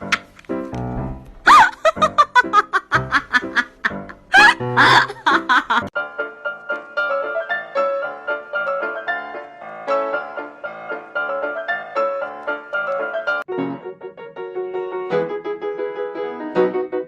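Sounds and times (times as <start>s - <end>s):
piano tune: 0.0s - 17.0s.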